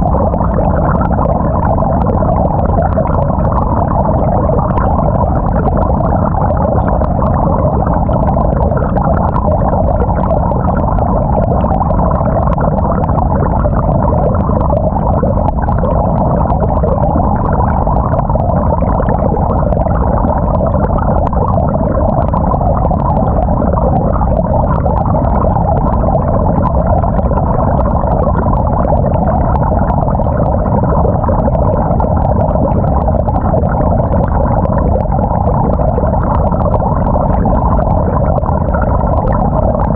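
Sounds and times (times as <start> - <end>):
water churning in washing machine: 0.0 - 39.9.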